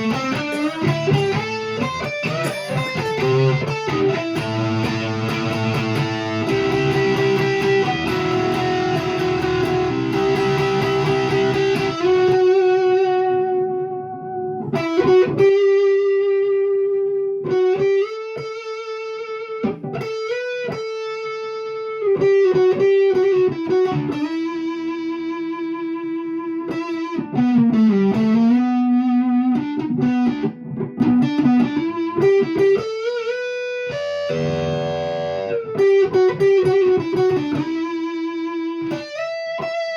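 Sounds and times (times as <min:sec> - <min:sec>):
electric guitar lead lines: 0:00.0 - 0:39.9
electric guitar strummed chords: 0:00.0 - 0:39.9.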